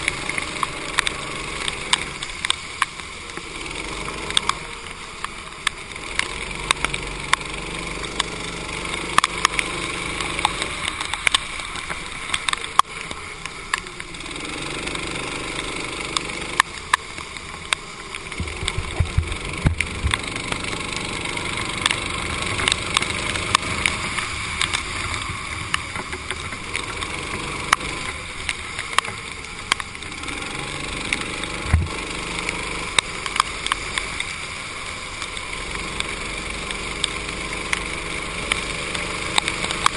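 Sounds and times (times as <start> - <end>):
kart engine revving: 0.0 - 39.9
sharp ticks: 0.0 - 39.9
wind and spray hiss: 0.0 - 39.9.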